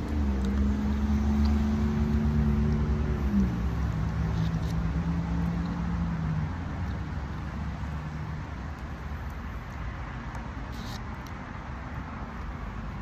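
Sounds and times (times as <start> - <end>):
vehicle motor rumble: 0.0 - 13.0.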